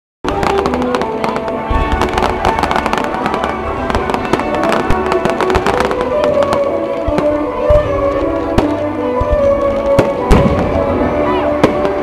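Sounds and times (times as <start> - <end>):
fireworks crackling and popping: 0.2 - 12.0
music playing: 0.2 - 12.0.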